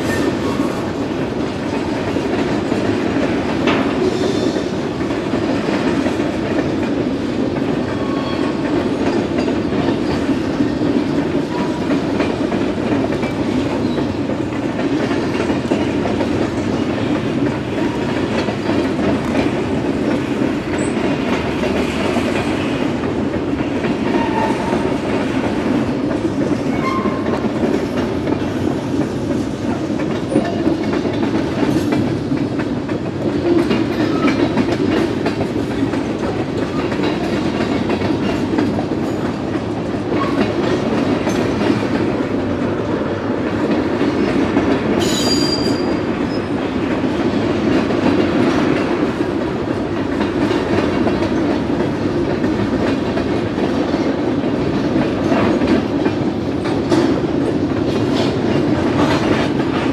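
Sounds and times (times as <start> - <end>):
train wheels rumbling on rail: 0.0 - 59.9
wheels clacking over rail joints: 0.0 - 59.9.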